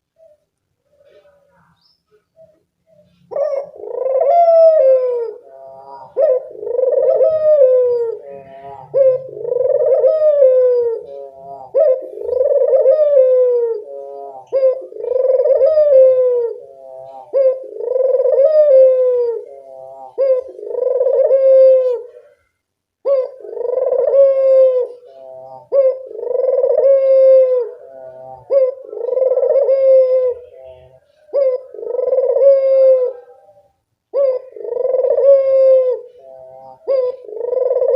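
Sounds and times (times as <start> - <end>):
dove cooing: 0.0 - 37.9.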